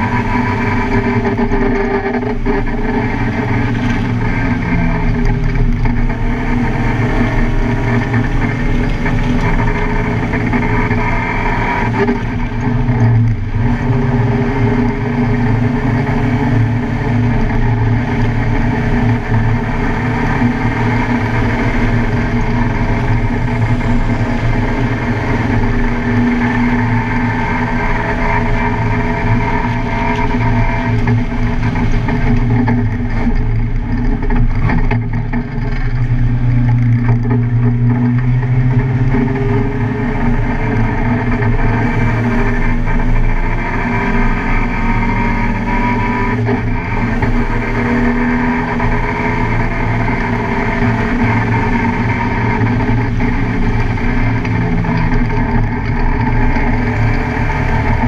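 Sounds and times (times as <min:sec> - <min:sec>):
car engine revving on race track: 0:00.0 - 0:58.0.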